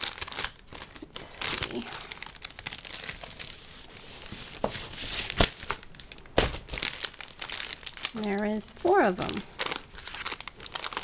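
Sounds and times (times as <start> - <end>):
plastic bags and paper crinkling: 0.0 - 11.0.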